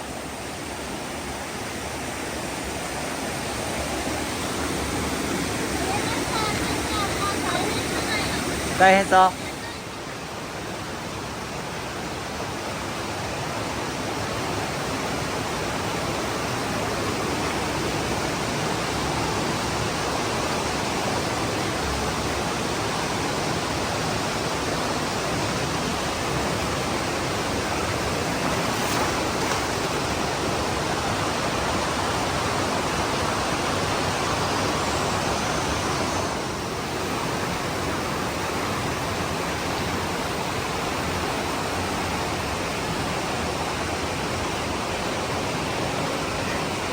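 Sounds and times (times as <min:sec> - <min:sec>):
rushing mountain stream: 0:00.0 - 0:46.9.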